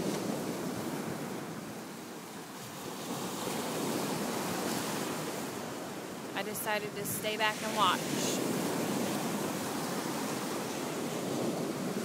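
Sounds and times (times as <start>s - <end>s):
ocean surf washing on shore: 0.0s - 12.0s.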